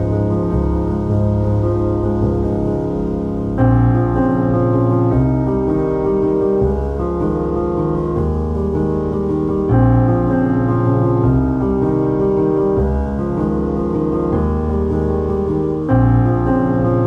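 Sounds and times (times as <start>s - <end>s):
low bass: 0.0s - 17.0s
piano chords: 0.0s - 17.0s.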